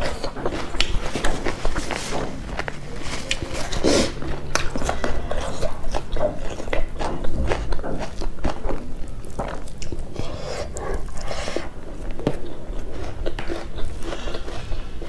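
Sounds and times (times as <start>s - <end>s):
chewing and mouth smacking: 0.0s - 15.0s.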